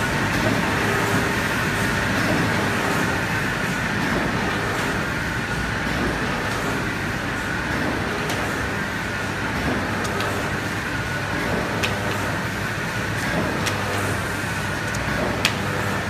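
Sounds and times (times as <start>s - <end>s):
printing machine rumble and hiss: 0.0s - 16.0s.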